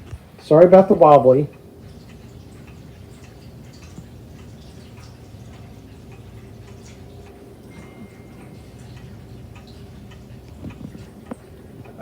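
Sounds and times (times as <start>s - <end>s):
faint clock ticking: 0.0s - 12.0s
steady low hum: 0.0s - 12.0s.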